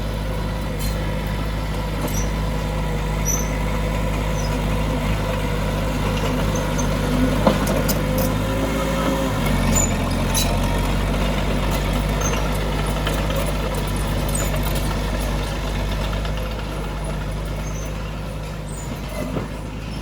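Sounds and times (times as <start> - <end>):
heavy machinery diesel engine running: 0.0 - 20.0.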